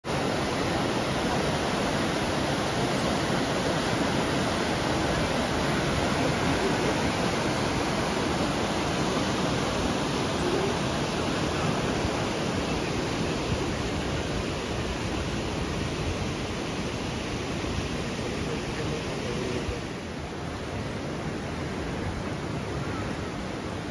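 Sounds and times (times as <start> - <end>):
river rushing over boulders: 0.0 - 23.9.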